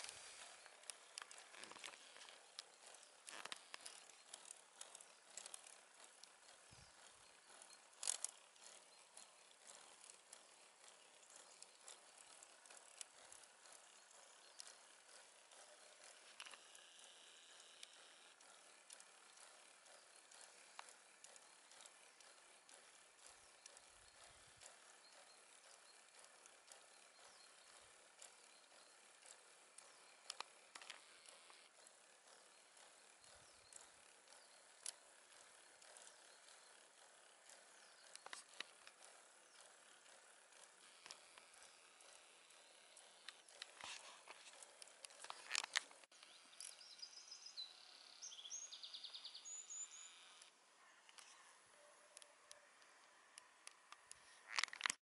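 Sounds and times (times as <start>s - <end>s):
faint outdoor hiss: 0.0s - 54.6s.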